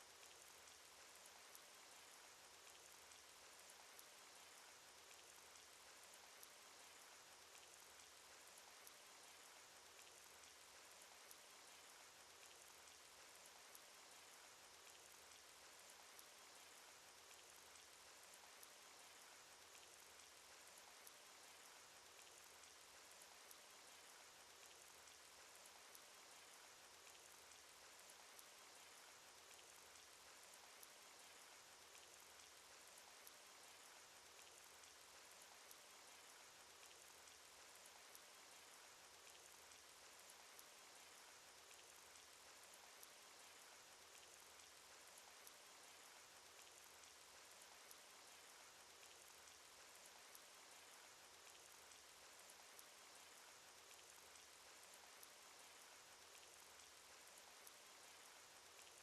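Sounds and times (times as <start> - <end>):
rain hiss: 0.0 - 59.0
small drop ticks: 6.2 - 56.9, 57.5 - 59.0.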